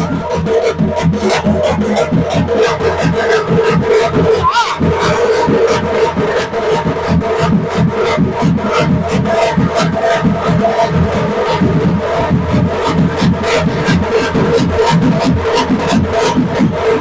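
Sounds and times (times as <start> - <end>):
drums beating fast rhythm: 0.0 - 17.0.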